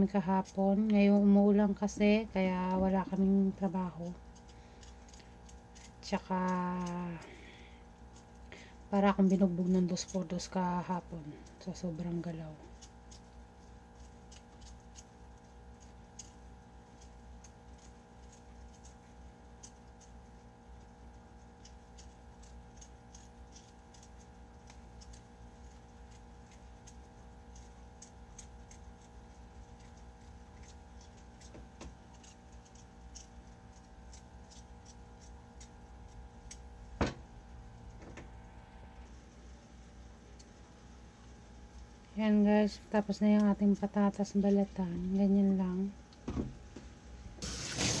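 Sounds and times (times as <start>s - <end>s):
knife peeling potato skin: 0.0s - 38.0s, 42.8s - 44.7s
steady hum: 0.0s - 48.0s.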